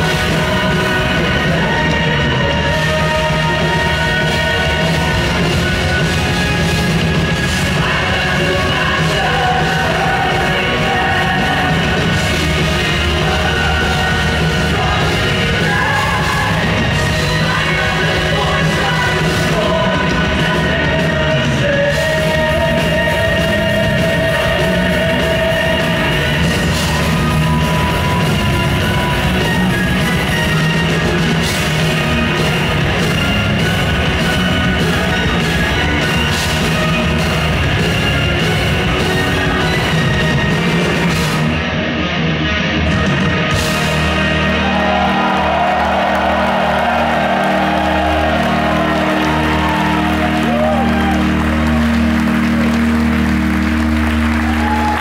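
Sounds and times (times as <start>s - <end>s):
symphonic metal band playing: 0.0s - 55.0s.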